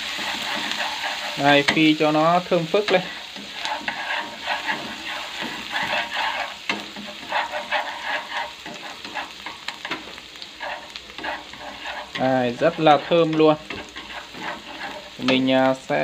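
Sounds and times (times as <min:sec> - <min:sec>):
shallots and garlic sizzling in lard: 0:00.0 - 0:16.0
chopsticks scraping and tapping pan: 0:00.2 - 0:02.0, 0:02.8 - 0:15.8.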